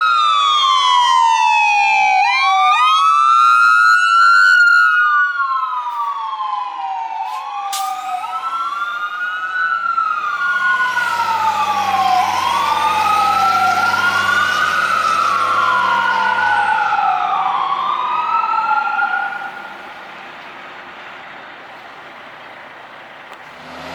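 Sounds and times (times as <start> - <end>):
fire truck sirens wailing: 0.0 - 23.9.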